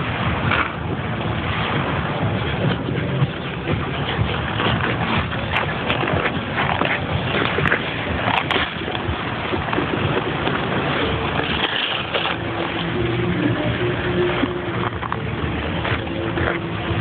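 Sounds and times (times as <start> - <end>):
skate blades scraping ice: 0.0 - 17.0.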